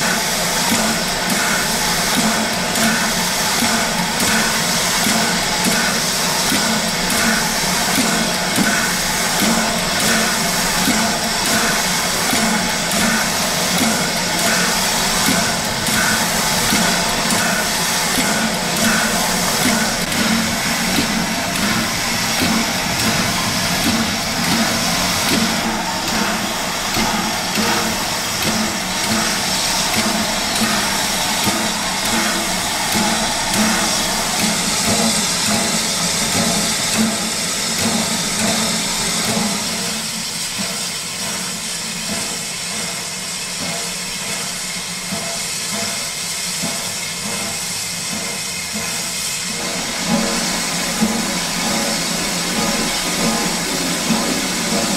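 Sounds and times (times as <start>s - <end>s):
steam locomotive hissing: 0.0s - 54.9s.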